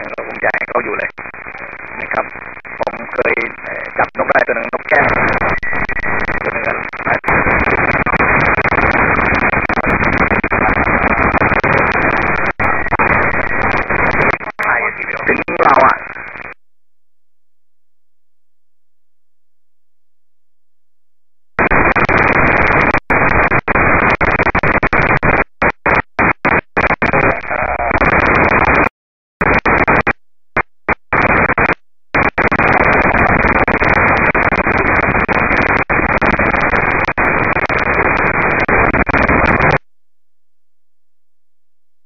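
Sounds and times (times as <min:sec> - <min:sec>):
radio hiss: 0:00.0 - 0:16.6, 0:21.6 - 0:39.8.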